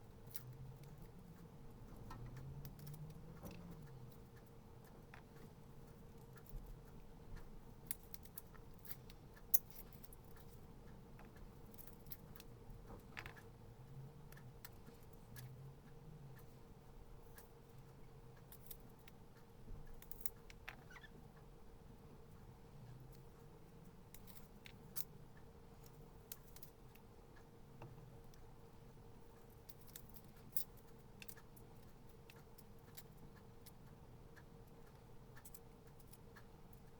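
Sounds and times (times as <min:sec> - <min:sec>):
faint clicks and light taps: 0:00.0 - 0:36.9.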